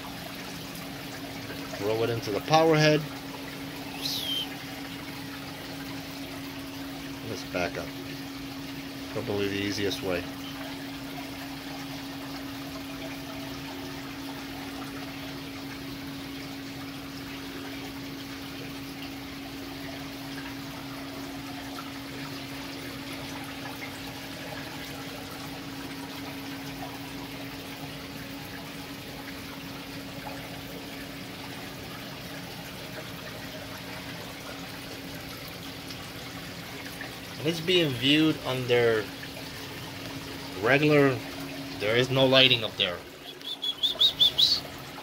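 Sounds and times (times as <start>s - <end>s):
aquarium water trickling: 0.0s - 45.0s.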